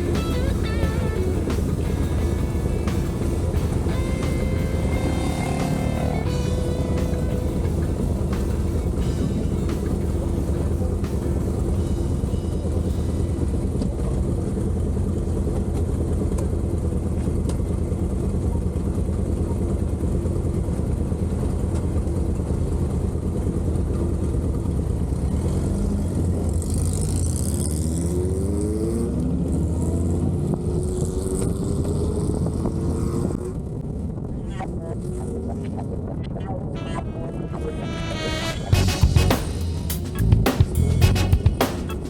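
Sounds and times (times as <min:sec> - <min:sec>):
vehicle engine: 0:00.0 - 0:36.4, 0:37.0 - 0:42.0
road noise: 0:00.0 - 0:42.0.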